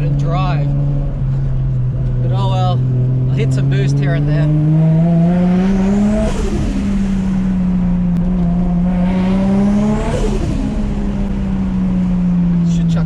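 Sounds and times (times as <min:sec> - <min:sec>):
turbocharged car engine revving: 0:00.0 - 0:13.0.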